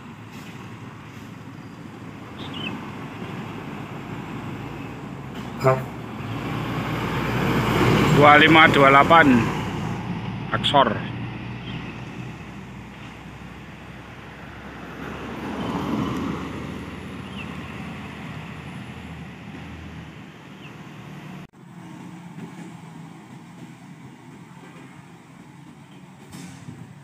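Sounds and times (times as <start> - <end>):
diesel truck engines: 0.0 - 27.0
road traffic: 0.0 - 27.0
vehicle passing: 0.6 - 26.4.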